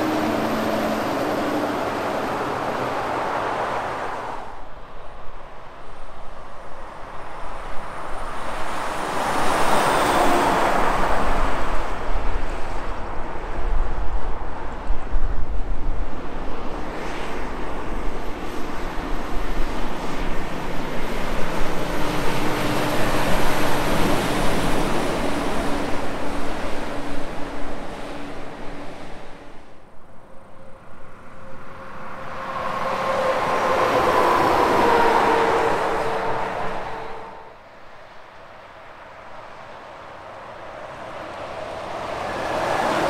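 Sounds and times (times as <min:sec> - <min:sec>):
trucks passing at highway speed: 0:00.0 - 0:43.0.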